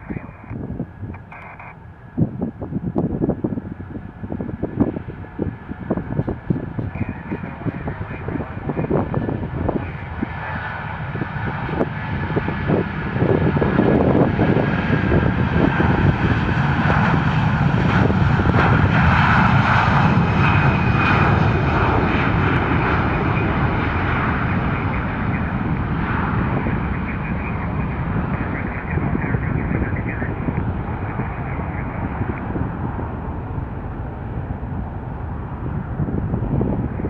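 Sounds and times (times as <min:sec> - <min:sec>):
jet airliner passing: 0:00.0 - 0:37.0.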